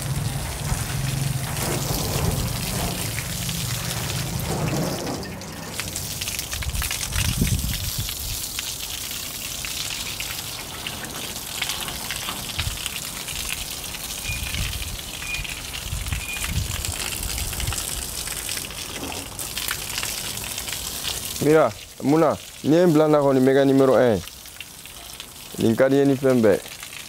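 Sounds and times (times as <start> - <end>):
hose water spraying on car: 0.0 - 27.0.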